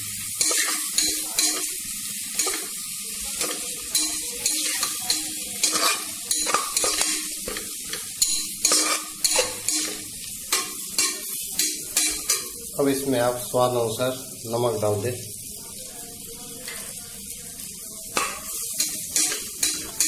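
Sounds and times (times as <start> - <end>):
masala sizzling in hot oil: 0.0 - 20.0.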